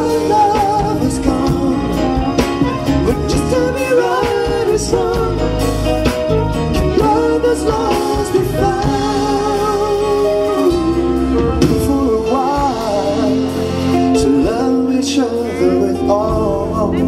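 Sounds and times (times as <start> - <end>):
slow ballad music: 0.0 - 17.0.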